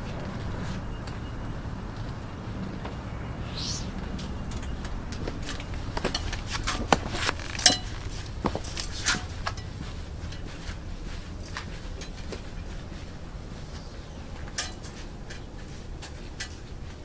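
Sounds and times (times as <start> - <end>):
soft footsteps on carpet: 0.0 - 16.3.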